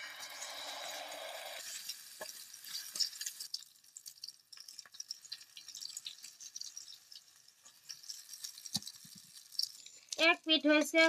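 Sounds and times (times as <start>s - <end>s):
egg mixture frying in oil: 0.0s - 11.0s
crackling pops: 1.6s - 11.0s.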